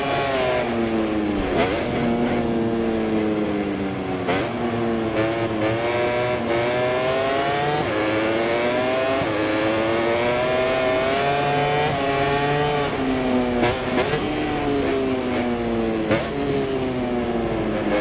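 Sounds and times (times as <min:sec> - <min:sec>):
motorcycle engine accelerating hard: 0:00.0 - 0:18.0.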